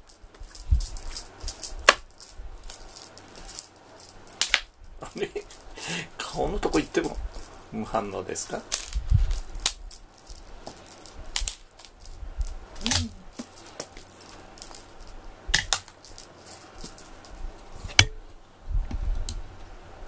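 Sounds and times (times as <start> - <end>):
cat toy jingling and rattling: 0.0 - 17.9.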